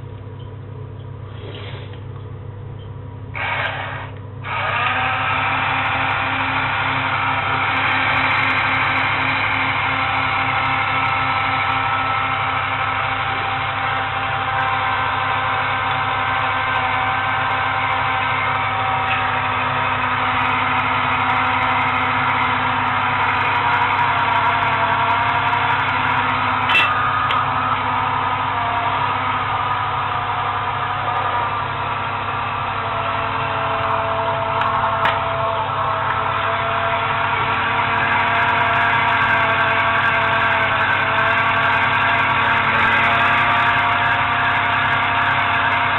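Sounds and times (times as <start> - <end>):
toy electric motor whine: 3.3 - 45.9.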